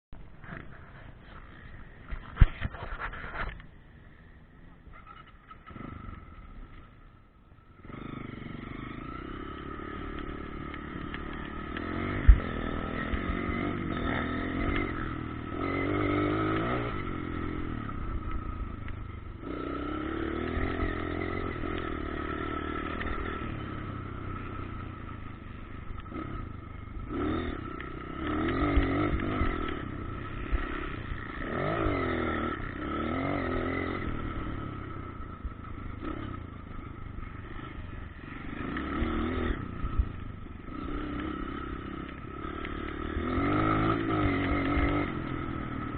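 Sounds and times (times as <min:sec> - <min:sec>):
dirt bike engines revving: 0:00.2 - 0:45.9.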